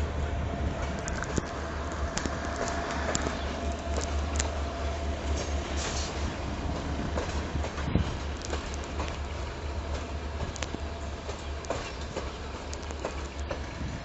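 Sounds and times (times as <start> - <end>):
train rolling past: 0.0 - 14.0
wheels clicking over rail joints: 0.0 - 14.0.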